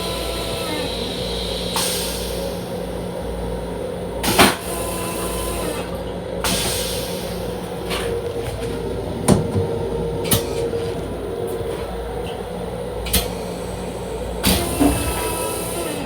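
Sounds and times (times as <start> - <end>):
train interior rumble and hum: 0.0 - 16.0.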